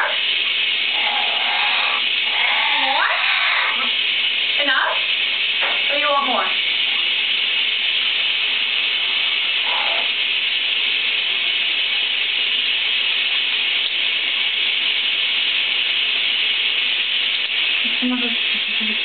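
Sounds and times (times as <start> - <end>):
shower water spraying: 0.0 - 19.0.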